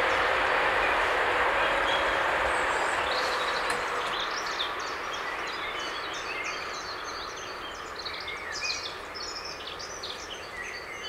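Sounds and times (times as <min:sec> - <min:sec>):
freight train rumble: 0:00.0 - 0:11.0
songbirds chirping and singing: 0:01.6 - 0:11.0.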